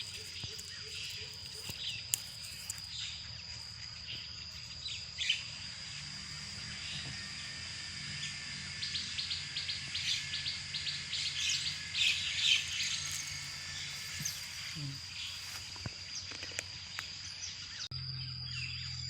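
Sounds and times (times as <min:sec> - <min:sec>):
bird chirps: 0:00.0 - 0:19.0
insects droning: 0:00.0 - 0:19.0.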